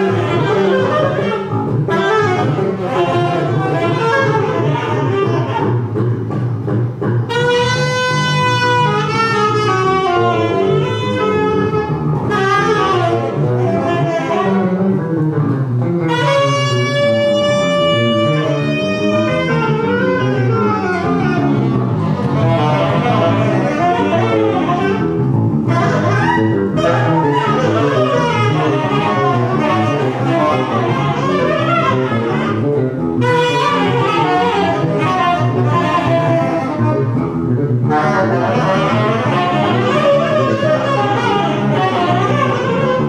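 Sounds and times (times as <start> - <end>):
double bass: 0.0 - 43.0
jazz ensemble playing: 0.0 - 43.0
saxophone: 0.0 - 43.0.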